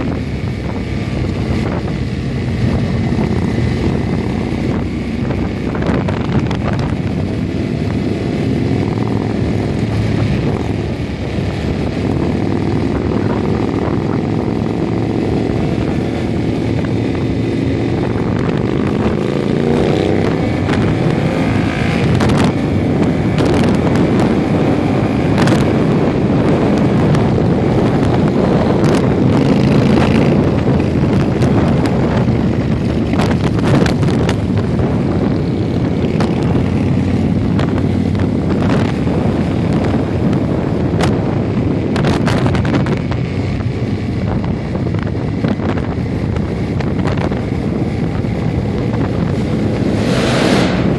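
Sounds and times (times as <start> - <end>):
motorcycle engine running: 0.0 - 50.9
wind buffeting microphone: 0.0 - 50.9.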